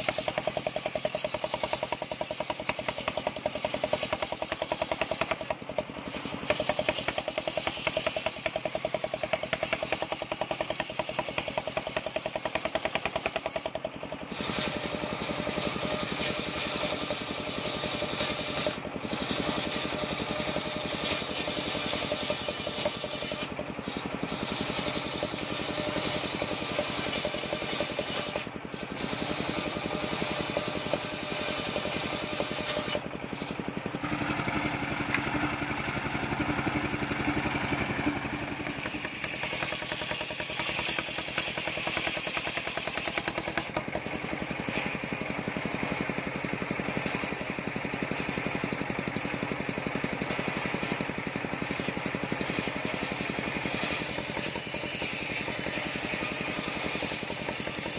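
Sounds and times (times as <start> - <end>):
circular saw blade cutting wood: 0.0 - 57.9
engine drone: 0.0 - 57.9.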